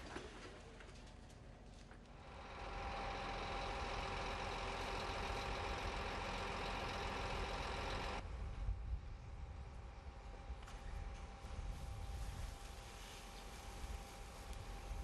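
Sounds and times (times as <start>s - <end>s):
fire engine engine running: 0.6s - 15.0s.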